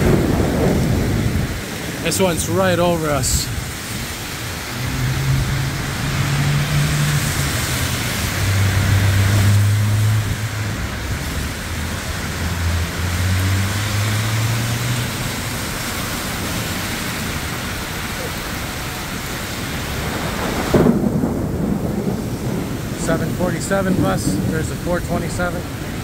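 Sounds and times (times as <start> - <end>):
vehicle engine humming: 0.0 - 21.2
heavy rain pouring: 0.0 - 26.0.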